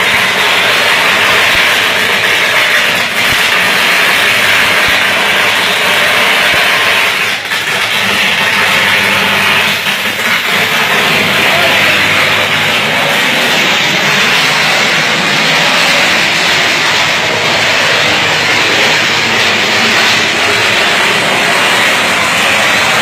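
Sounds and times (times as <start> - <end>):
electric arc roaring hiss: 0.0 - 23.0.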